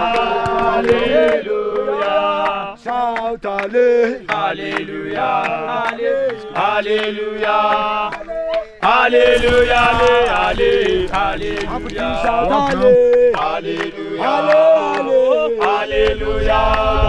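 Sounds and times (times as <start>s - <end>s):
men chanting and singing: 0.0s - 17.0s.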